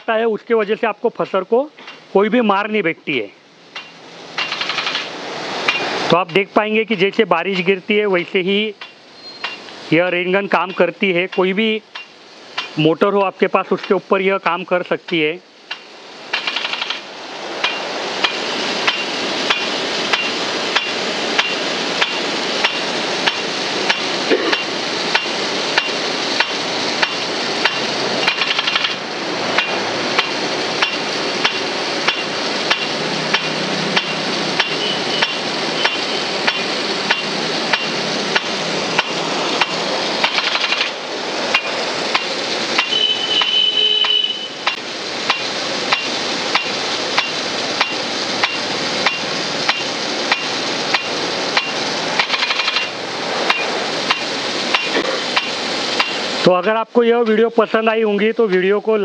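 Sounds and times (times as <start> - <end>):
sprinkler swing arm knocking: 0.0 - 59.0
sprinkler water jet hissing: 0.0 - 59.0.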